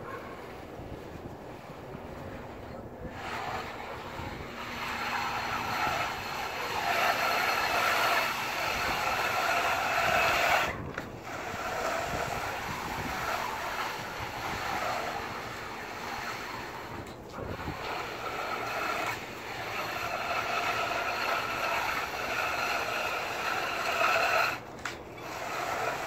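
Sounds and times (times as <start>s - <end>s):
float scraping wet concrete: 0.0s - 26.0s.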